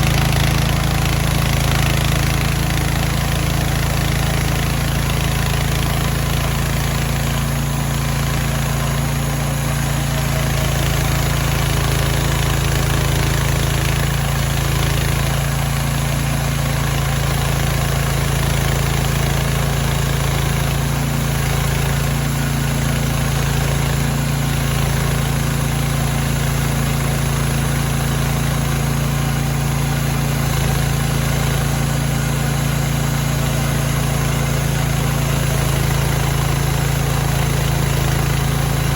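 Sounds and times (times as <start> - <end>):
sawmill gas engine running: 0.0 - 38.9.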